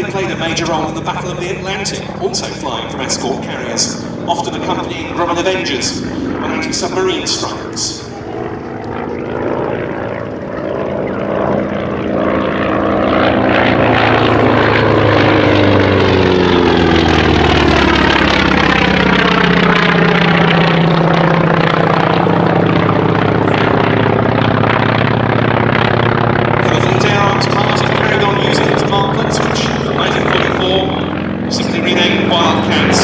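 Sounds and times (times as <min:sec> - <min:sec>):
radial engine aircraft passing: 0:00.0 - 0:33.0.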